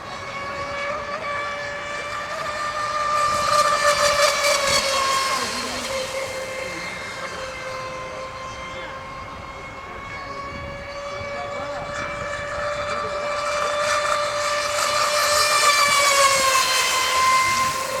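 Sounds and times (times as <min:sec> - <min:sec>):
rc boat motor whine: 0:00.0 - 0:18.0.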